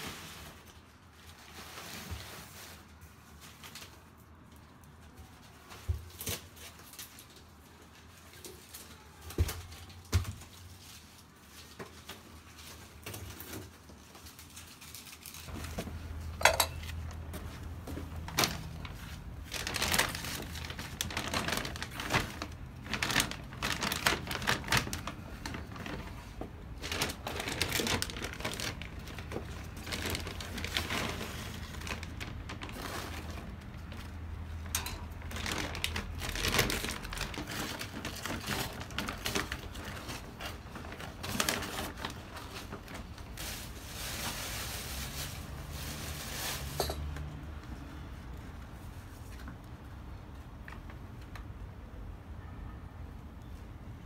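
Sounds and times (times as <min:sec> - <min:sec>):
plastic bags crinkling: 0:00.0 - 0:47.2.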